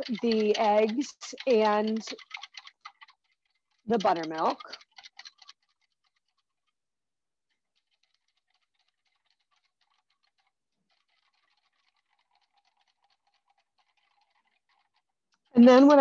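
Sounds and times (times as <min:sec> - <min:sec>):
utensil clicking beating eggs: 0:00.0 - 0:06.8, 0:07.4 - 0:15.6.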